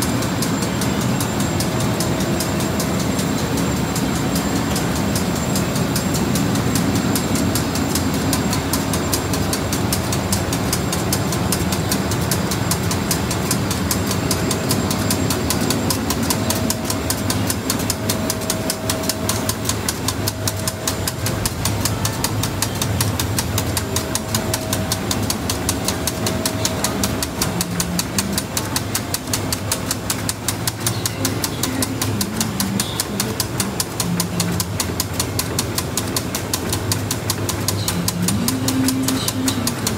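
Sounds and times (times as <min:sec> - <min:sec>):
faint machine whine: 0:00.0 - 0:39.9
fast even ticking: 0:00.0 - 0:39.9
printing machinery drone: 0:00.0 - 0:39.9.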